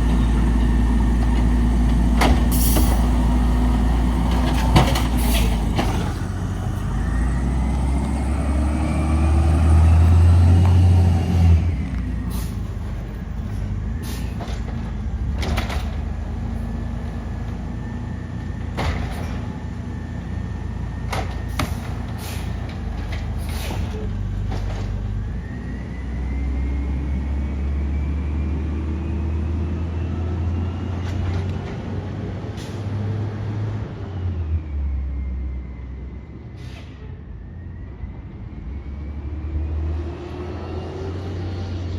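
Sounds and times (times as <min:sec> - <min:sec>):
garbage truck engine revving: 0:00.0 - 0:34.1.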